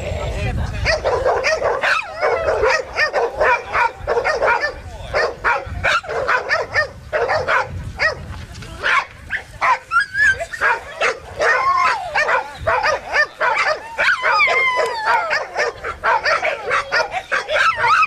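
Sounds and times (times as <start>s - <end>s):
dogs yelping: 0.8s - 8.2s, 8.8s - 18.0s
dogs barking: 0.8s - 18.0s.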